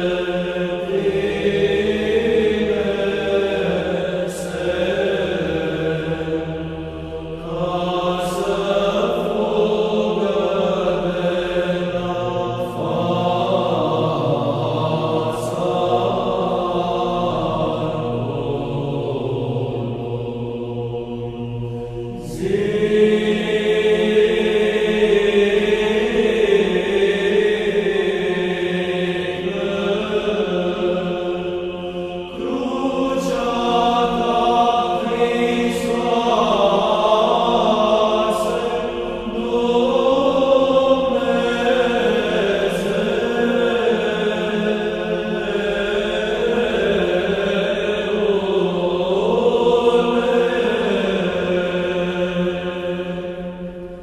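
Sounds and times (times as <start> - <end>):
voices chanting over drone: 0.0 - 54.0.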